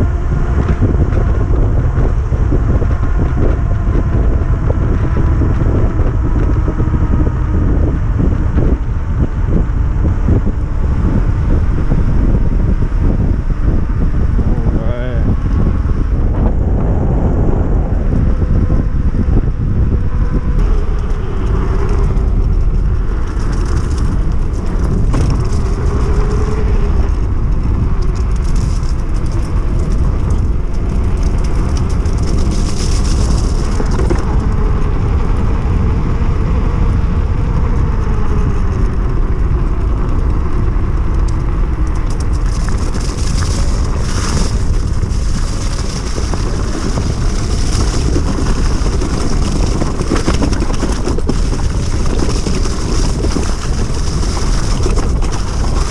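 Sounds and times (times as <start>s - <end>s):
electric motor whine: 0.0s - 55.9s
wind and tyre rumble: 0.0s - 55.9s.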